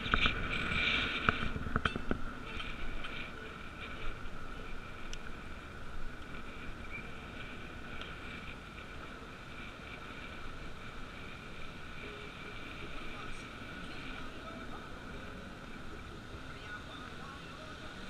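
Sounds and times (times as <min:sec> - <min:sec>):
bicycle tyre noise: 0:00.0 - 0:18.0
steady high whine: 0:00.0 - 0:18.0
wind rumble on microphone: 0:00.0 - 0:18.0.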